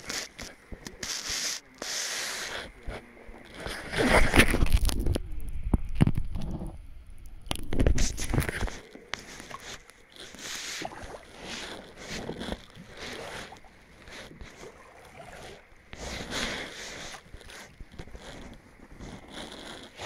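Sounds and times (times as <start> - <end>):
paddle strokes in water: 0.0 - 4.7, 7.8 - 20.0.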